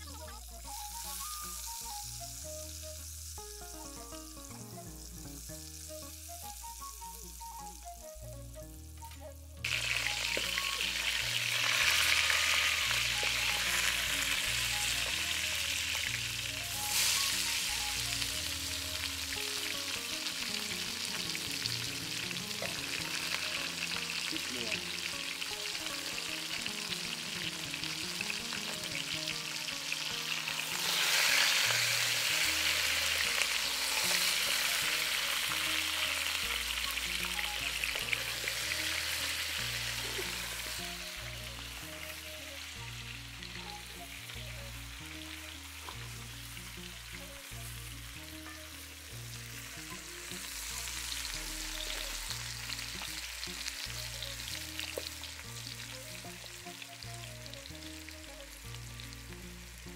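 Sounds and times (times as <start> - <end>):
potatoes sizzling in a pot: 0.0 - 59.9
quiet background music: 0.0 - 59.9.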